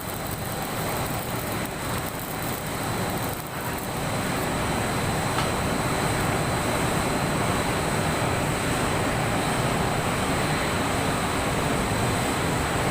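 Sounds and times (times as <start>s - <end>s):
arc welding hiss: 0.0s - 12.9s.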